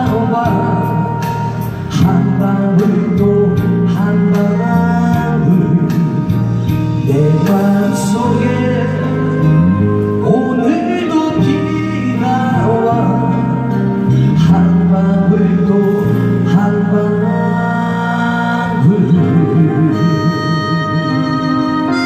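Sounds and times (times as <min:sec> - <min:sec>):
backing track with steady beat: 0:00.0 - 0:22.0
man singing ballad into microphone: 0:00.0 - 0:22.0.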